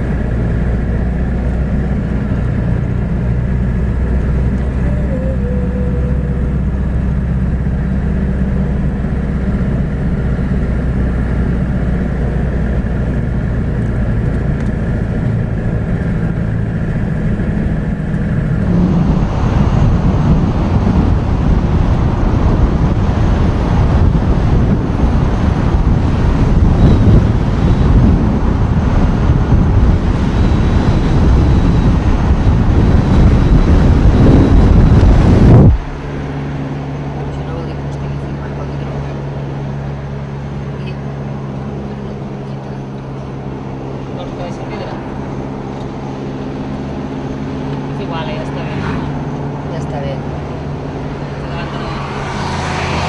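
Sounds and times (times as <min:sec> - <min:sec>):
road and wind noise: 0:00.0 - 0:53.0
vehicle engine running: 0:00.0 - 0:53.0.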